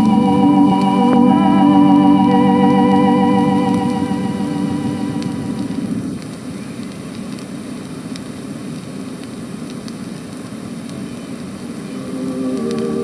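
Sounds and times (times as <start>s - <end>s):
record surface hiss and crackles: 0.0s - 13.0s.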